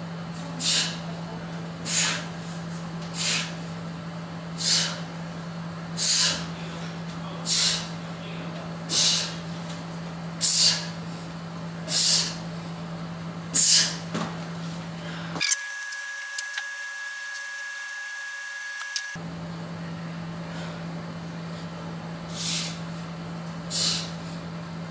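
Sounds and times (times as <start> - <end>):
steady low hum: 0.0 - 15.5, 19.0 - 24.9.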